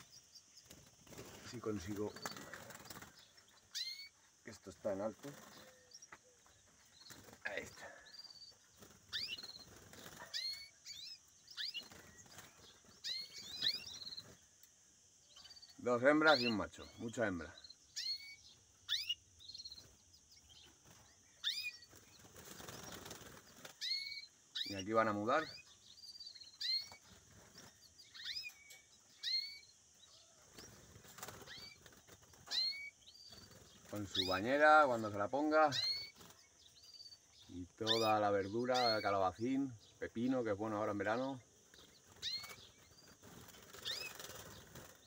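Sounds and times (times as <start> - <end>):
goldfinches twittering: 0.0 - 45.0.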